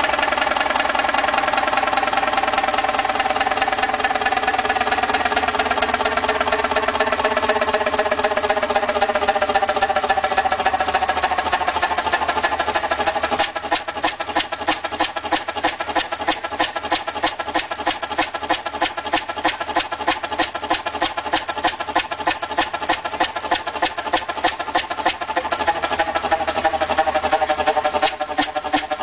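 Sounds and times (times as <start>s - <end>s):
diesel engine exhaust beats: 0.0s - 29.0s.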